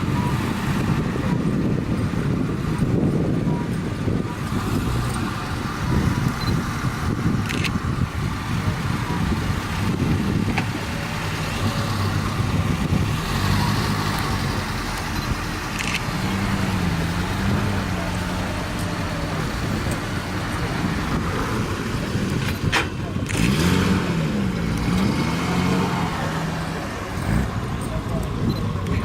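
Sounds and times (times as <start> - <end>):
car engines rumbling at low revs: 0.0 - 29.0.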